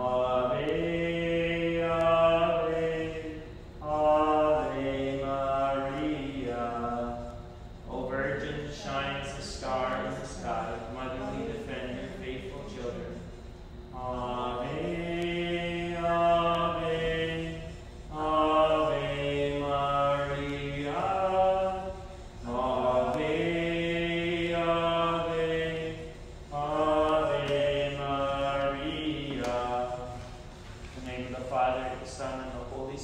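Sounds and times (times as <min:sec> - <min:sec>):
man singing unaccompanied hymn: 0:00.0 - 0:33.0.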